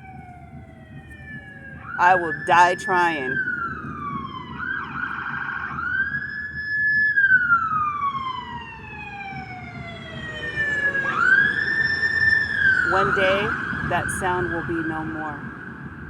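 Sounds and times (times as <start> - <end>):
police siren wailing: 0.0 - 16.0.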